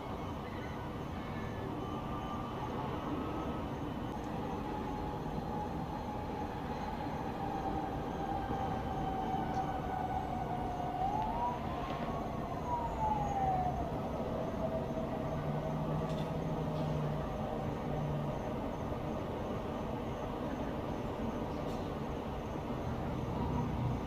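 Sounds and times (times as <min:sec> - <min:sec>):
distant siren wailing: 0:00.0 - 0:21.3, 0:22.3 - 0:24.0.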